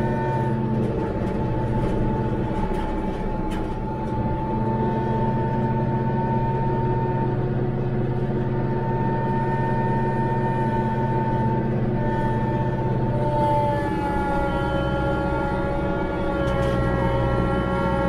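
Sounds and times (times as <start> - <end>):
constant high whine: 0.0 - 18.0
tractor engine drone: 0.0 - 18.0.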